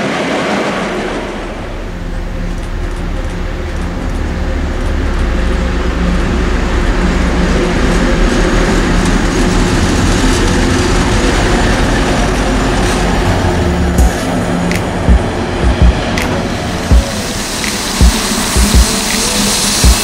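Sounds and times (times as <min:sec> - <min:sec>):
diesel locomotive engine drone: 0:00.0 - 0:20.0
train wheel and rail noise: 0:00.0 - 0:20.0.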